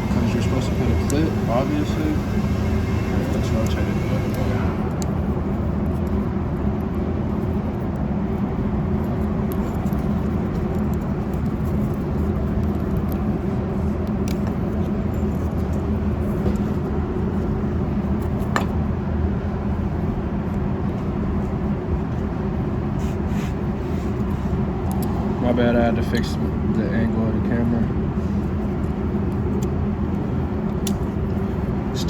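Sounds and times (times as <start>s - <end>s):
low rumbling hum: 0.0s - 32.0s.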